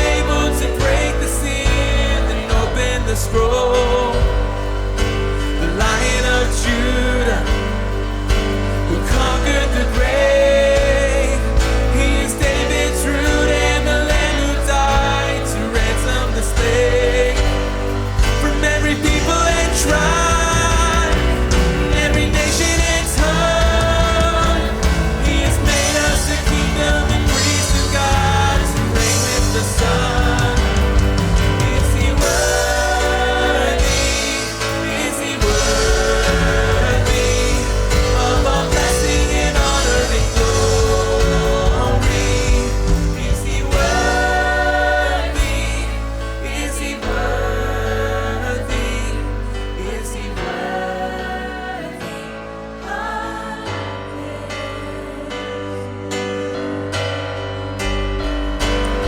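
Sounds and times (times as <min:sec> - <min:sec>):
worship band playing: 0:00.0 - 0:59.0.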